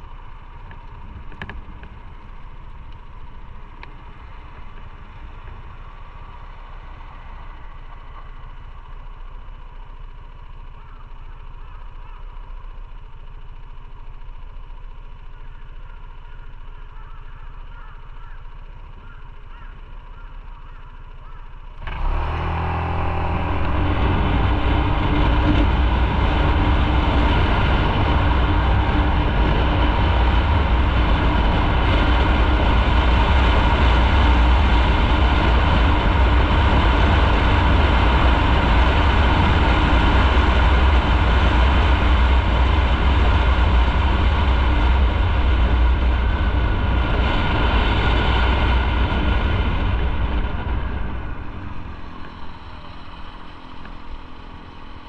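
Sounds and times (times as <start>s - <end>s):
motorcycle engine hum: 0.0s - 55.0s
wind and road noise: 0.0s - 55.0s.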